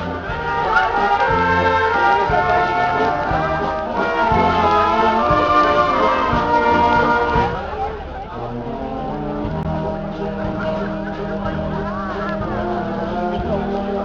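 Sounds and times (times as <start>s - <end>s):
steady drum beat: 0.0s - 14.0s
trombones and trumpets: 0.0s - 14.0s.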